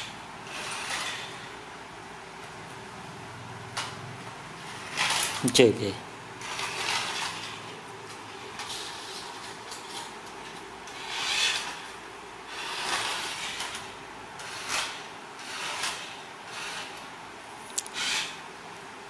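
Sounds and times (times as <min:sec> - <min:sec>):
toy car whirring on tiles: 0:00.0 - 0:01.8, 0:03.8 - 0:04.0, 0:04.6 - 0:18.6.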